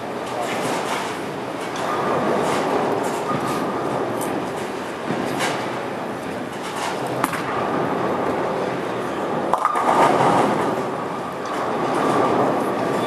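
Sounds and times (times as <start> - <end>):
rolling and pins on other lanes: 0.3 - 13.0
bowling ball rolling on wooden lane: 1.8 - 13.0.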